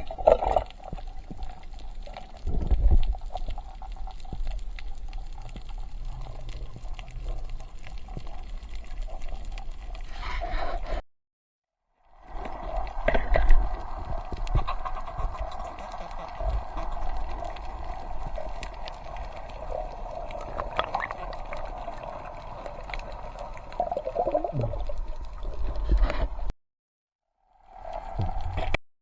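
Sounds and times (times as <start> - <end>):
muffled water noise: 0.0 - 11.0, 12.0 - 26.5, 27.4 - 28.8.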